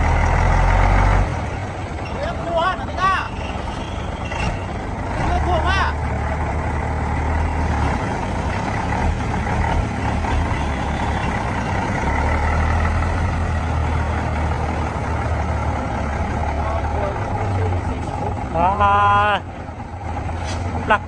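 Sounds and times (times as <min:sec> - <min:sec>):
truck engine under load: 0:00.0 - 0:21.0.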